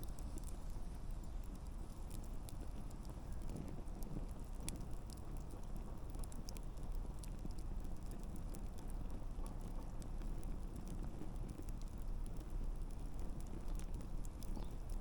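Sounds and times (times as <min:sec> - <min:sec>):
low rush of flames: 0:00.0 - 0:15.0
pops and snaps from burning logs: 0:00.0 - 0:15.0.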